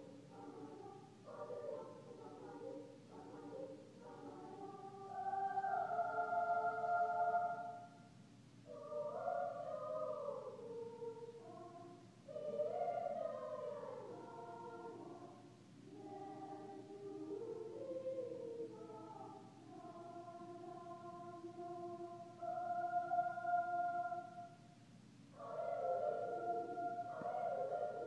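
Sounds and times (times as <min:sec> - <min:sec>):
choir singing sustained chords: 0:00.0 - 0:28.0.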